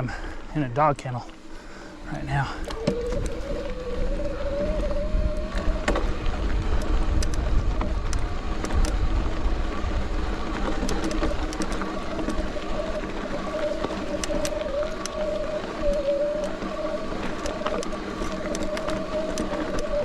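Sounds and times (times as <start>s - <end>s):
bike rolling over rocks: 1.1s - 20.0s
wavering hum: 1.4s - 20.0s
bike clicks and rattles: 2.5s - 20.0s.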